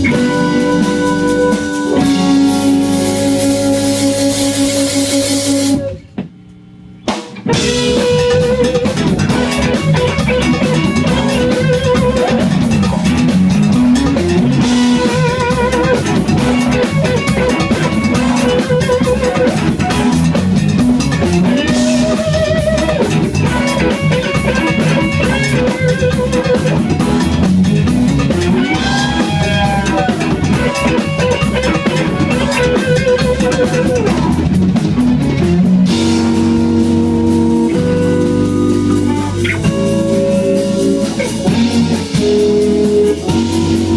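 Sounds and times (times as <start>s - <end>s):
drum kit cymbal beat: 0.0s - 6.2s, 7.0s - 43.9s
bass guitar: 0.0s - 43.9s
electric guitar lead: 0.0s - 43.9s.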